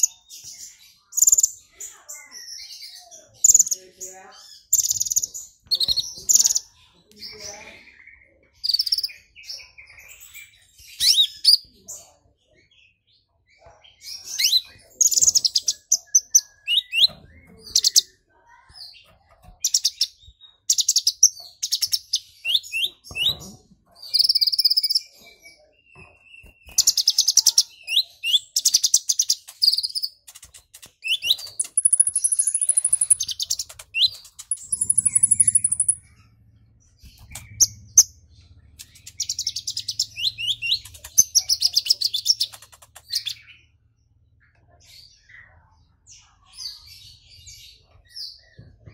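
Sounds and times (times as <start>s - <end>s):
sunbird chirping and trilling: 0.0s - 48.6s.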